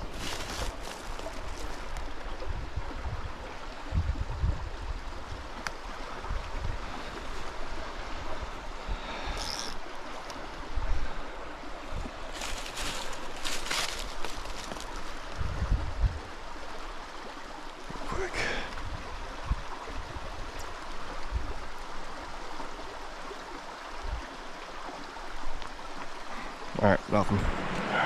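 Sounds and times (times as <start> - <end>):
stream water flowing over rocks: 0.0 - 28.0.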